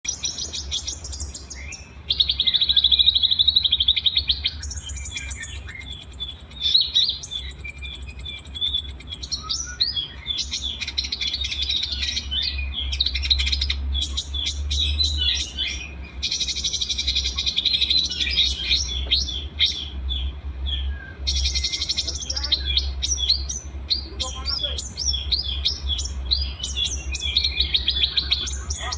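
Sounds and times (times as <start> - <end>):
songbirds trilling and chirping: 0.0 - 28.9
steady low hum: 0.0 - 28.9.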